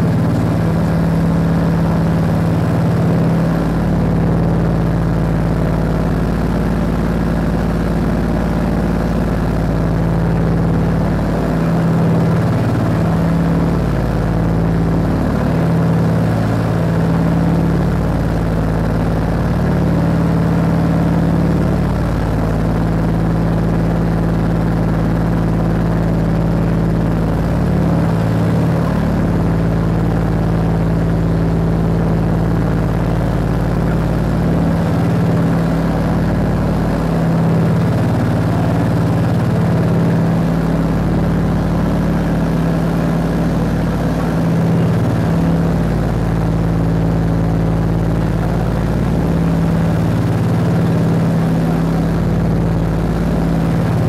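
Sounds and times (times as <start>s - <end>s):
aircraft engines droning in cabin: 0.0s - 54.0s.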